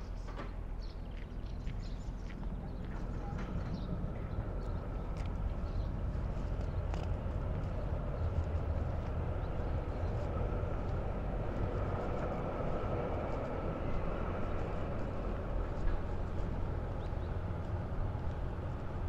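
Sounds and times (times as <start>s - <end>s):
large engine rumbling: 0.0s - 19.0s.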